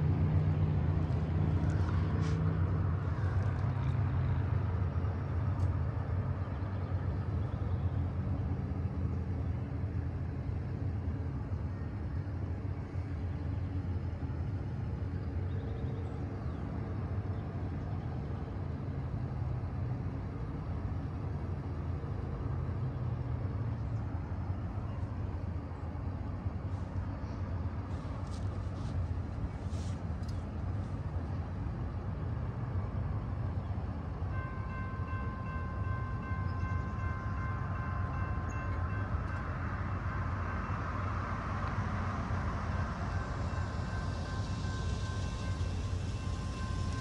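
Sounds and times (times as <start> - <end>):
low engine rumble: 0.0 - 47.0.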